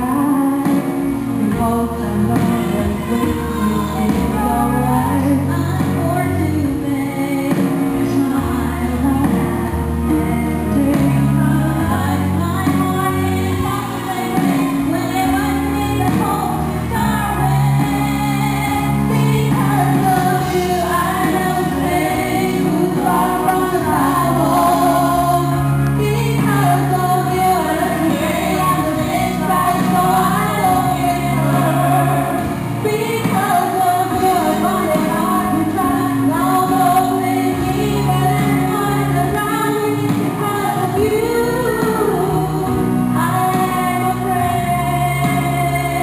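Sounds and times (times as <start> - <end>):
instrumental accompaniment: 0.0 - 46.0
women singing a duet: 0.0 - 46.0.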